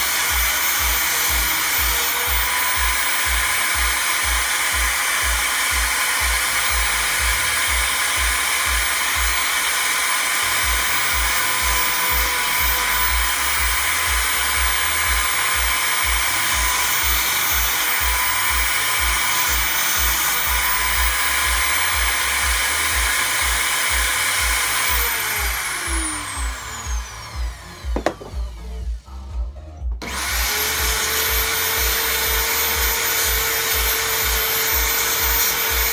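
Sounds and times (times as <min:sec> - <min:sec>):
electric sanding tool whine: 0:00.0 - 0:29.0, 0:30.0 - 0:35.9.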